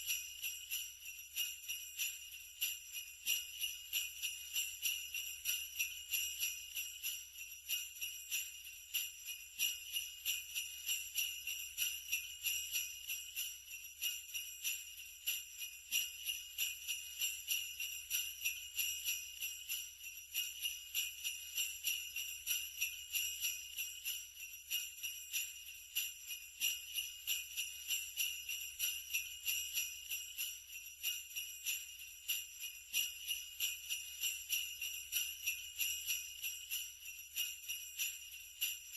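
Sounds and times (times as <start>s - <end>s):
sleigh bells jingling: 0.0s - 38.9s.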